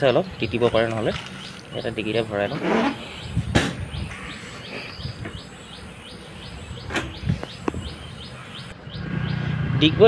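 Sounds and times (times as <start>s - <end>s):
steady high chirping: 0.0s - 9.6s.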